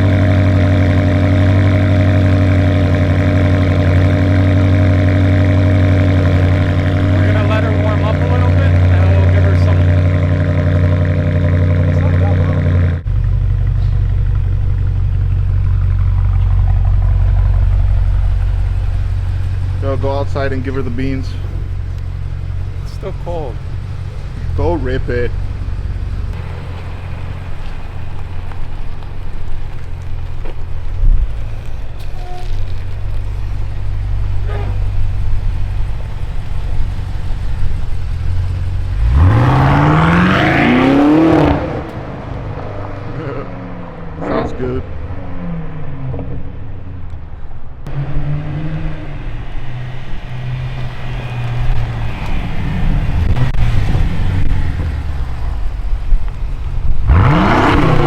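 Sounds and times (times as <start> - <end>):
car engine idling deep rumble: 0.0 - 48.1, 49.0 - 58.0.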